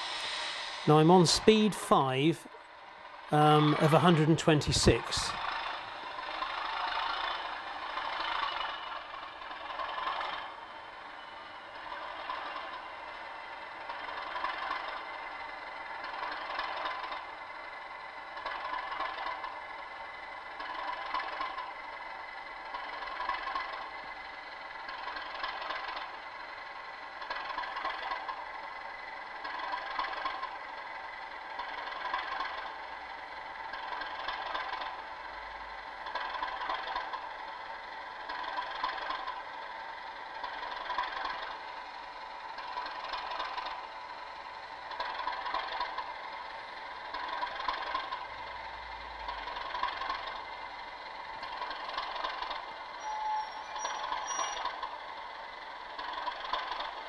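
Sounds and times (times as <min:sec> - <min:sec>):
model locomotive diesel engine sound: 0:00.0 - 0:57.0.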